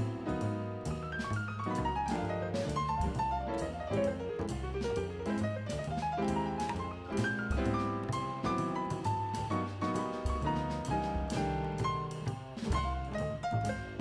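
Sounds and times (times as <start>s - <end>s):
piano-led background music: 0.0s - 14.0s.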